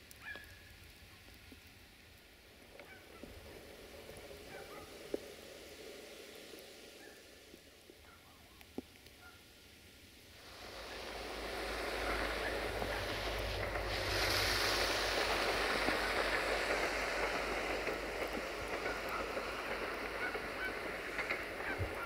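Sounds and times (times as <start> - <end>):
train approaching rumble: 1.6 - 8.4, 9.9 - 22.0.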